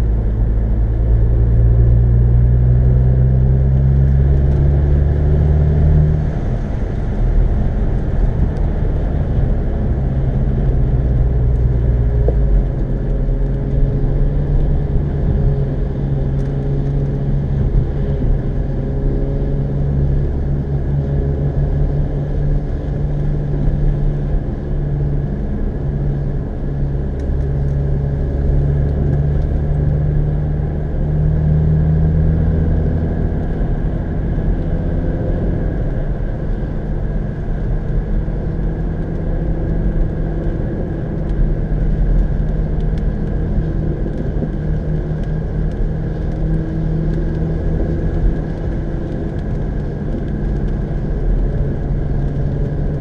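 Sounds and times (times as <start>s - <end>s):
road and tyre noise: 0.0s - 53.0s.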